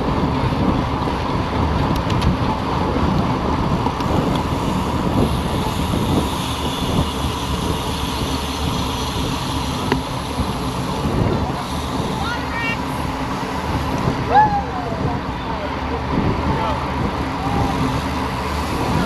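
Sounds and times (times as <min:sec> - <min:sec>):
bicycle tyre rumble: 0:00.0 - 0:19.0
wind buffeting microphone: 0:00.0 - 0:19.0.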